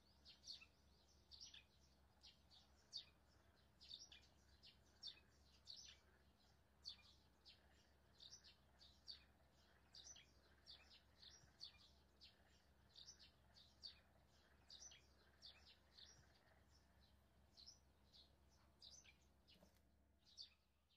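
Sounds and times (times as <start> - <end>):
faint bird chirping: 0.0 - 20.9.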